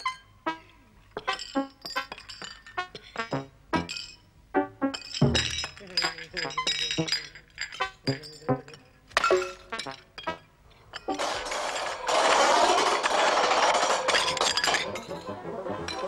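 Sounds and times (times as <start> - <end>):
crockery clattering: 1.1 - 4.2, 4.8 - 16.0
teacups clinking: 1.1 - 16.0.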